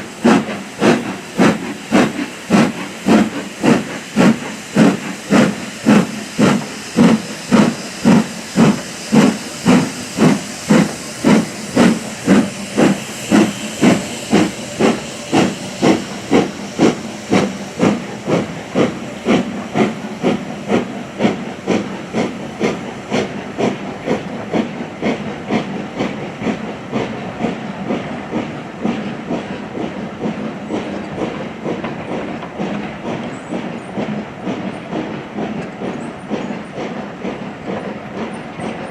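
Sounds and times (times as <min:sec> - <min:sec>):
steam locomotive exhaust beats: 0:00.0 - 0:38.9.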